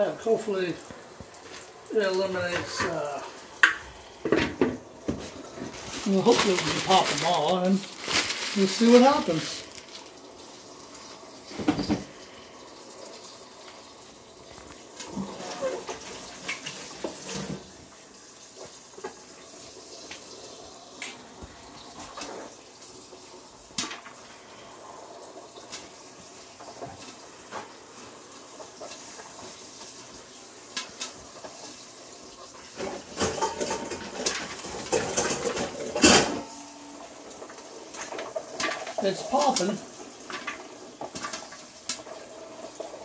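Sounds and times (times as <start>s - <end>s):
oil sizzling: 0.0s - 43.0s.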